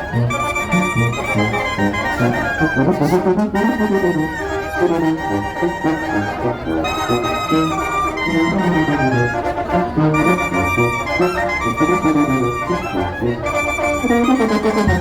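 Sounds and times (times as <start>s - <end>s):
low brass bass line: 0.0s - 7.2s, 8.3s - 15.0s
wind band playing dance tune: 0.0s - 15.0s.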